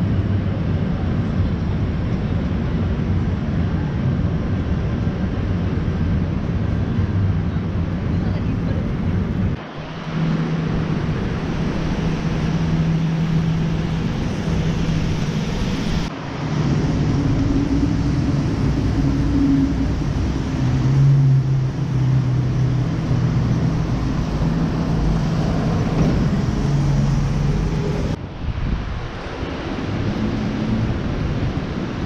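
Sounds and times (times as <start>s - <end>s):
city traffic noise: 0.0s - 32.0s.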